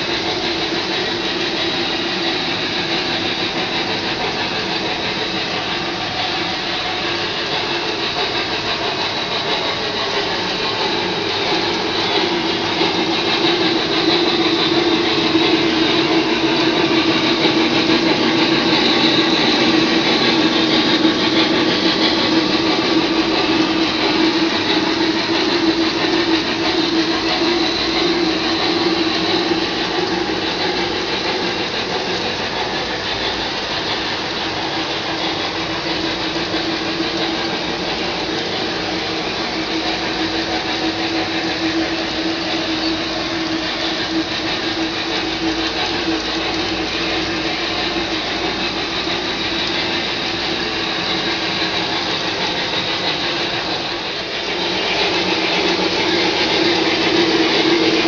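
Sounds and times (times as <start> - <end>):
model steam locomotive: 0.0 - 58.0
model train cars rolling on track: 0.0 - 58.0.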